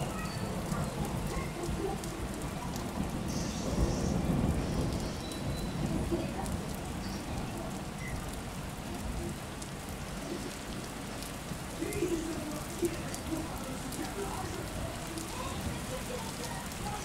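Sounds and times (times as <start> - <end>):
water drips: 0.0 - 17.0
water splashing and trickling: 0.0 - 17.0.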